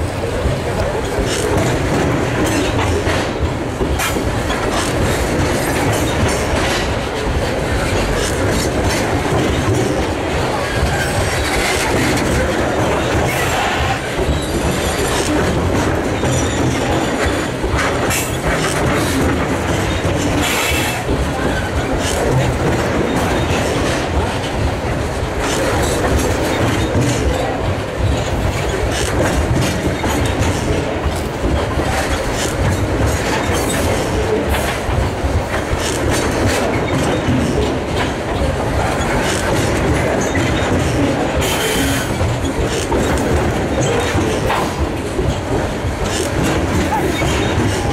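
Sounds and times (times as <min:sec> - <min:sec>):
freight train rumbling and rattling: 0:00.0 - 0:47.9.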